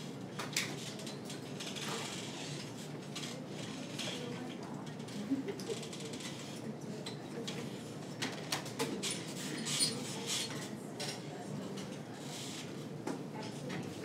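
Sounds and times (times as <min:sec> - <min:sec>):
murmur of voices: 0:00.9 - 0:14.0.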